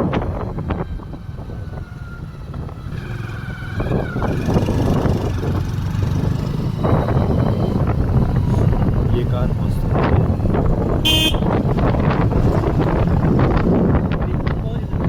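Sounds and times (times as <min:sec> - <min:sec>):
motorcycle engine and wind rumble: 0:00.0 - 0:15.0.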